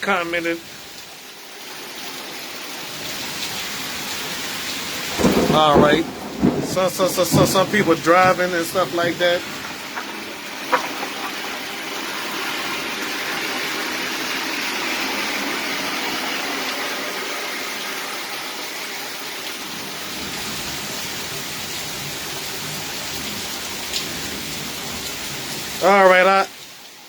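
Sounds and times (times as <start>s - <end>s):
heavy rain: 0.0s - 27.0s
car tyres hissing on wet road: 0.6s - 5.8s, 8.9s - 25.9s.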